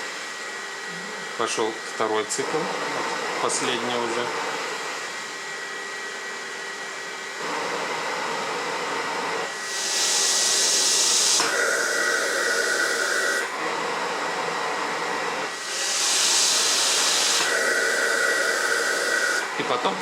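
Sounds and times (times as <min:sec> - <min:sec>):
cough-assist machine blower cycling: 0:00.0 - 0:05.1, 0:07.4 - 0:20.0.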